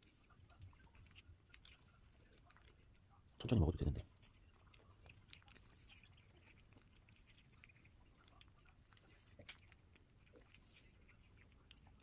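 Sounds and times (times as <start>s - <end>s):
puppy crunching food: 0.0s - 12.0s.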